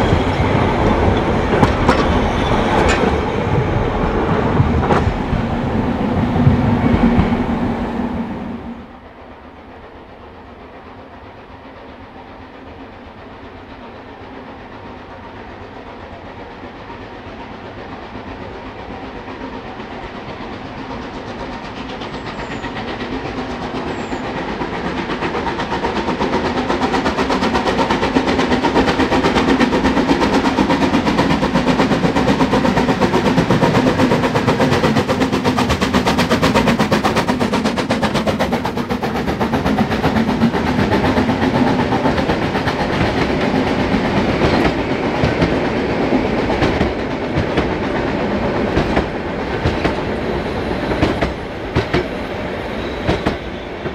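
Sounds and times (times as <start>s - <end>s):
steam train running: 0.0s - 53.9s.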